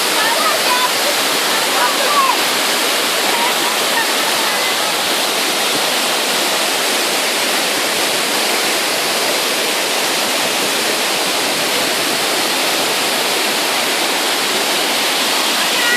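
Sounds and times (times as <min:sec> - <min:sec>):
waterfall roaring: 0:00.0 - 0:15.9.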